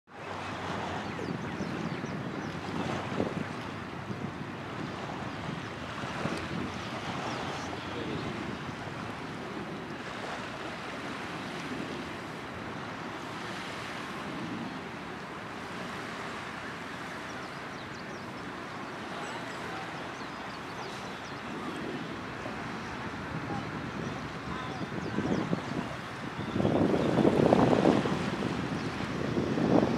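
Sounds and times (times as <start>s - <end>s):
surf: 0.1s - 29.9s
wind rumbling on microphone: 0.1s - 29.9s.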